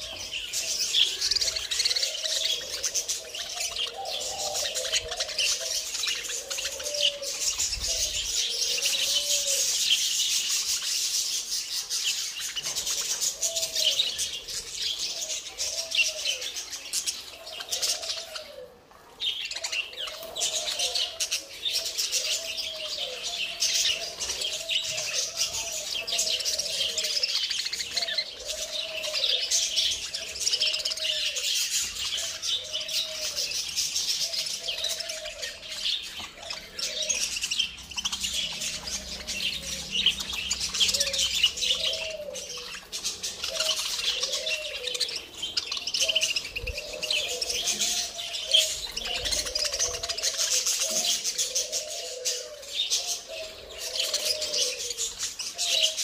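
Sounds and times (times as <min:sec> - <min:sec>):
budgerigars chattering: 0:00.0 - 0:18.6, 0:19.3 - 0:56.0.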